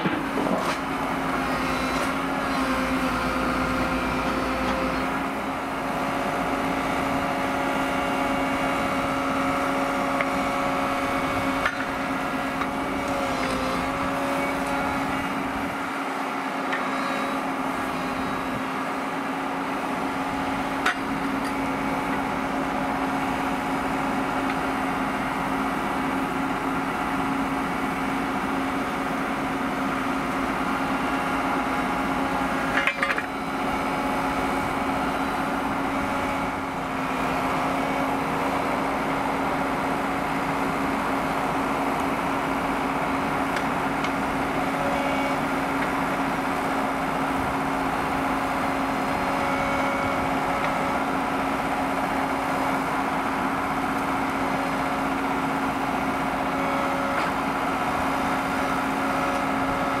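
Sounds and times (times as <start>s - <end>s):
diesel excavator engine idling: 0.0s - 60.0s.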